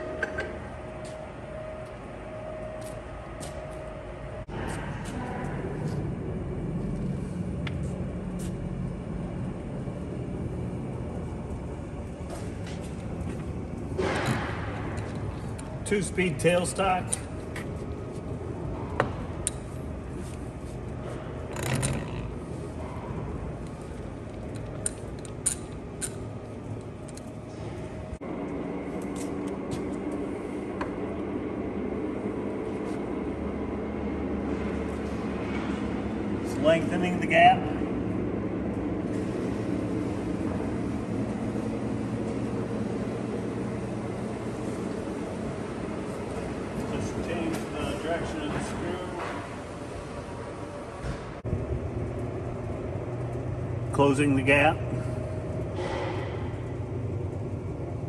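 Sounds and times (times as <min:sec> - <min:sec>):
lathe humming: 0:06.0 - 0:55.8.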